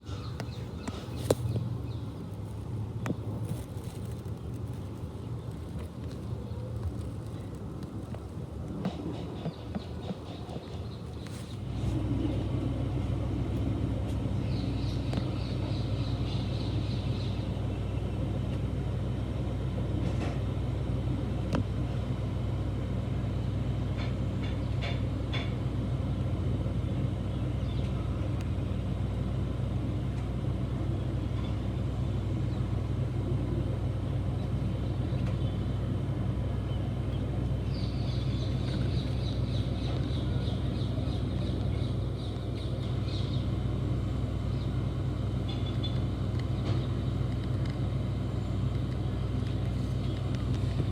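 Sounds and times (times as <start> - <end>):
helicopter engines and rotor rumble: 5.2 - 50.9.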